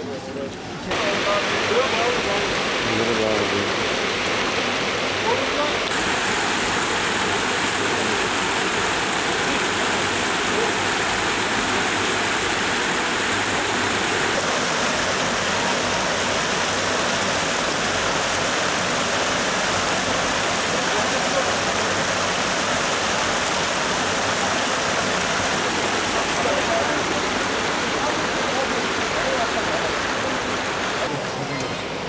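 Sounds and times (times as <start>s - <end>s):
stream water rushing and splashing: 0.0s - 32.0s.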